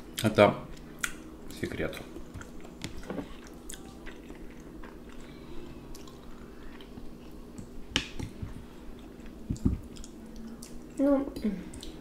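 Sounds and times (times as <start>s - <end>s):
chewing and wet mouth sounds: 0.7s - 12.0s.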